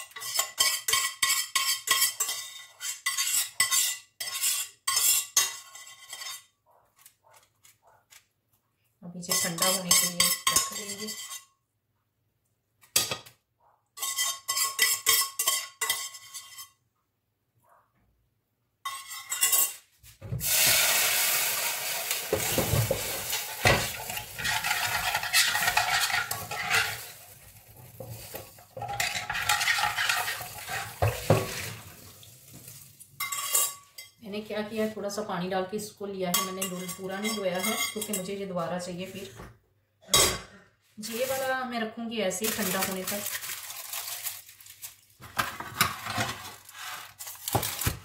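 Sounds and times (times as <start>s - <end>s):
metal pans and utensils clinking: 0.0s - 6.5s, 9.2s - 11.5s, 12.8s - 13.4s, 14.0s - 16.8s, 18.8s - 35.0s, 36.3s - 39.4s, 40.1s - 41.5s, 42.4s - 48.0s.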